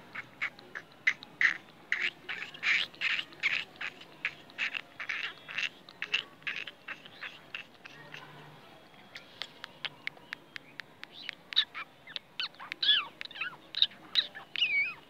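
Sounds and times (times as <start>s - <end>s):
harsh bird chirps: 0.0s - 8.4s, 9.1s - 15.0s.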